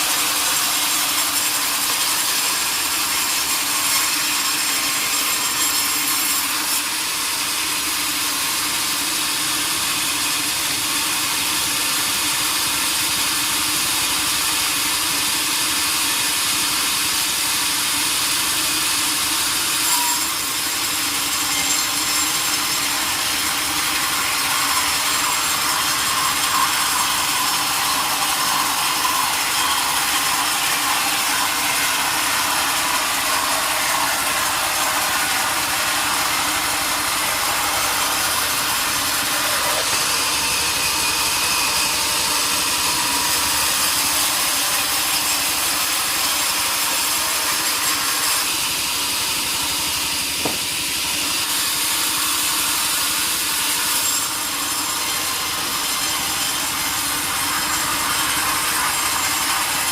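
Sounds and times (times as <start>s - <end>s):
saw cutting through log: 0.0s - 59.9s.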